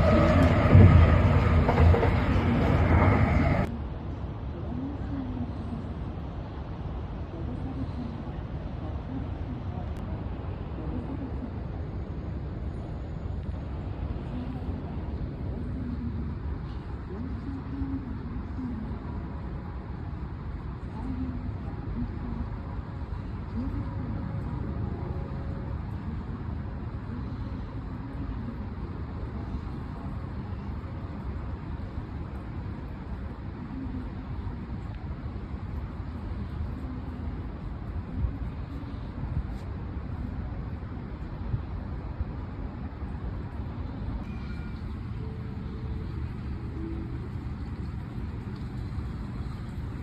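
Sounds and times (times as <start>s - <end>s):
train running low rumble: 0.0s - 50.0s.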